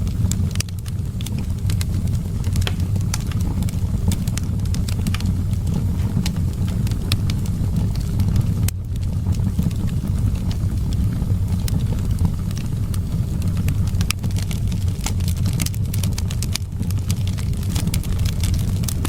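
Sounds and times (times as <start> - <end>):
low rumble of wind: 0.0 - 19.0
wood fire crackling and popping: 0.0 - 19.0.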